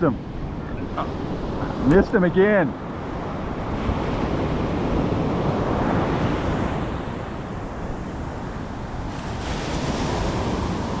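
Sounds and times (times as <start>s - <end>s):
ocean surf washing up beach: 0.0s - 11.0s
wind buffeting microphone: 0.0s - 11.0s.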